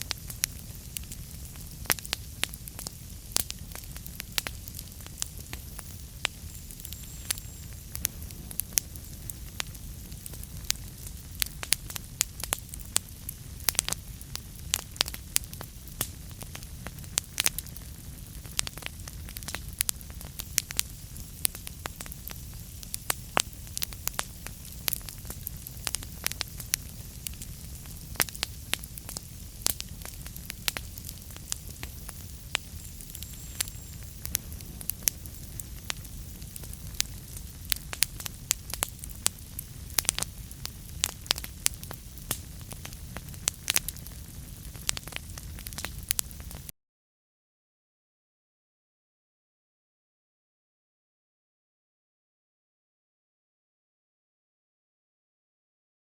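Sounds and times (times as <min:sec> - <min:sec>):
fire low rumble: 0:00.0 - 0:46.7
wood fire crackling and popping: 0:00.0 - 0:46.7.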